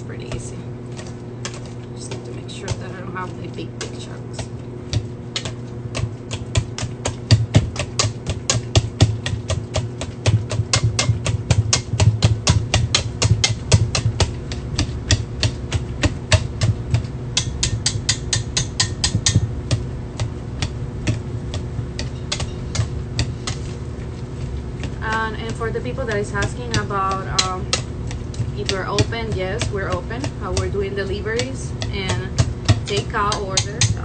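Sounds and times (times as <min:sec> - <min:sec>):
steady low hum: 0:00.0 - 0:34.0
whisk knocking against metal bowl: 0:00.3 - 0:34.0.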